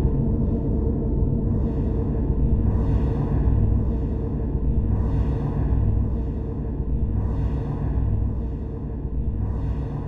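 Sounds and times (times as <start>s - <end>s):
dark ambient drone music: 0.0s - 10.0s.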